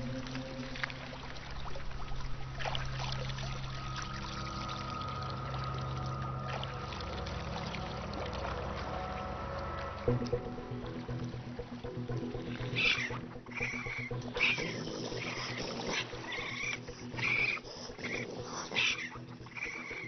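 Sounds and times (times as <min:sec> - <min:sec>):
low drone of background score: 0:00.0 - 0:20.0
water splashing and trickling: 0:00.0 - 0:20.0.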